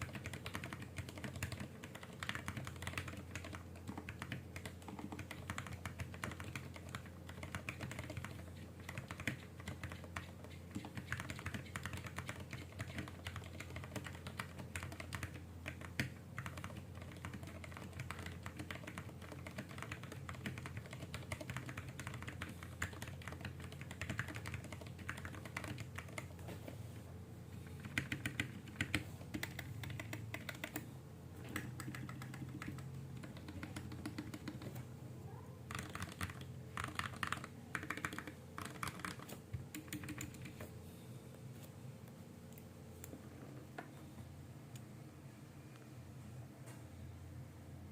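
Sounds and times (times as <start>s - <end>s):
fast typing on mechanical keyboard: 0.0s - 26.4s, 27.7s - 34.8s, 35.7s - 40.7s.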